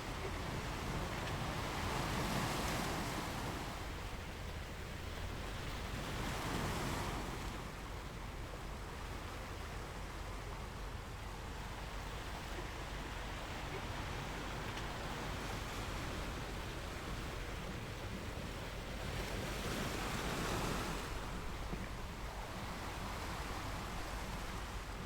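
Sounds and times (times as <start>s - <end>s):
sea waves washing onto shore: 0.0s - 25.0s.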